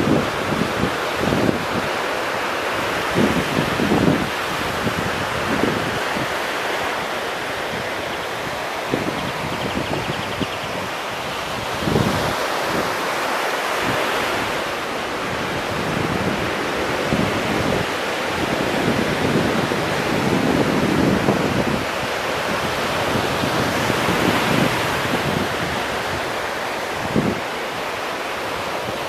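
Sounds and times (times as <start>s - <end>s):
small waves breaking on beach: 0.0s - 29.0s
wind buffeting microphone: 0.0s - 29.0s.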